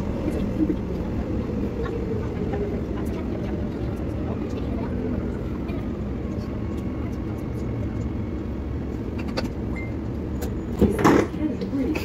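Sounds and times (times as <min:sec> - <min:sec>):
electric train rumble inside carriage: 0:00.0 - 0:12.0.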